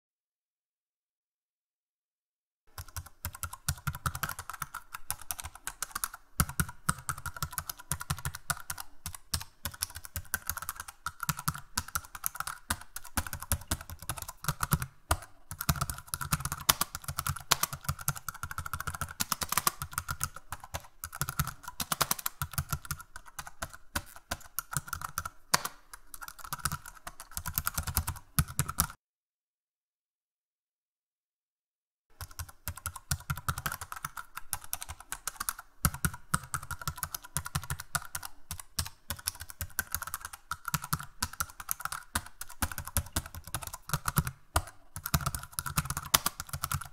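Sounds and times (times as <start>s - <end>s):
computer keyboard typing: 2.7s - 29.0s, 32.2s - 46.9s.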